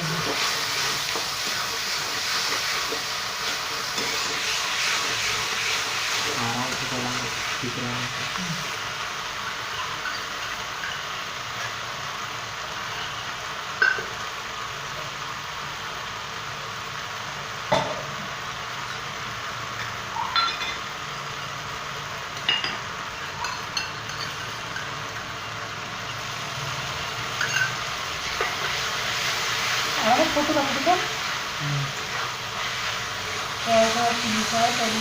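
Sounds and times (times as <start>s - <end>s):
steady sizzling hiss: 0.0s - 35.0s.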